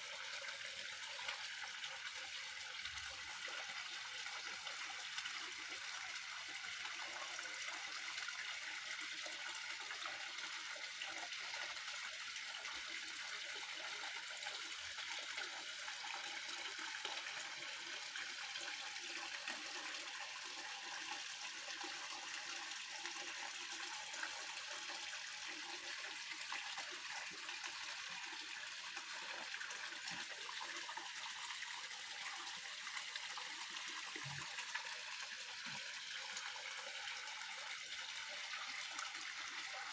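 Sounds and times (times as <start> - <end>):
small waterfall splashing into pond: 0.0 - 39.9.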